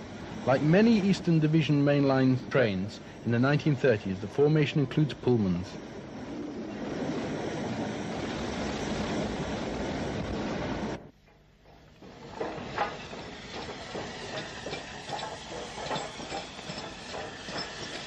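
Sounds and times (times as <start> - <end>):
steam train rumble and hiss: 0.0 - 18.0
train clanks and chuffs: 0.0 - 18.0.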